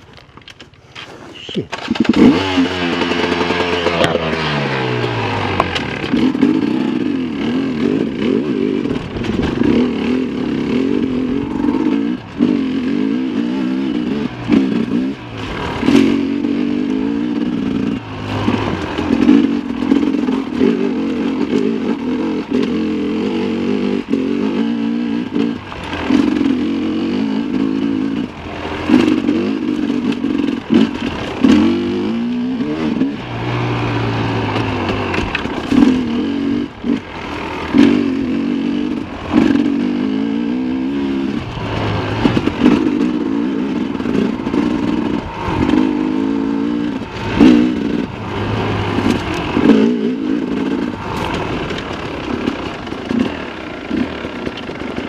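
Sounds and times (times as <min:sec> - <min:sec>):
motorcycle engine revving: 0:01.6 - 0:55.0.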